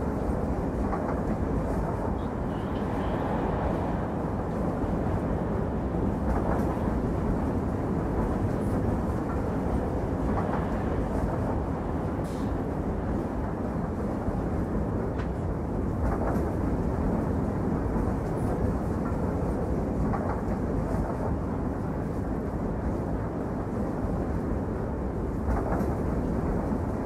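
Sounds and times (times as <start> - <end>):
train rumbling in motion: 0.0 - 27.0.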